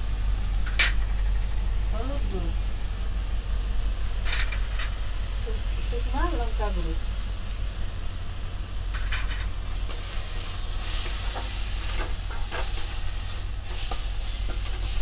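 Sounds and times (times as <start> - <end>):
masala sizzling in a pan: 0.0 - 15.0
steady low hum: 0.0 - 15.0.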